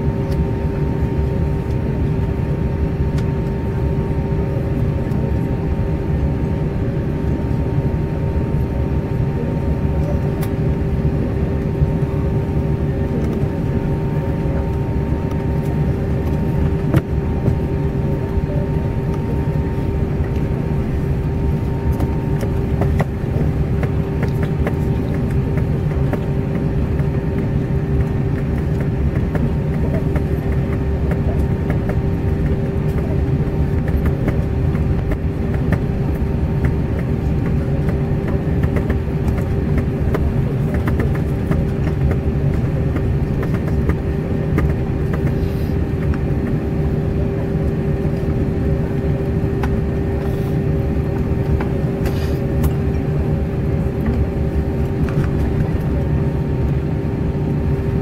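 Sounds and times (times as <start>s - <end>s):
aircraft cabin rumble: 0.0s - 58.0s
steady hum: 0.0s - 58.0s.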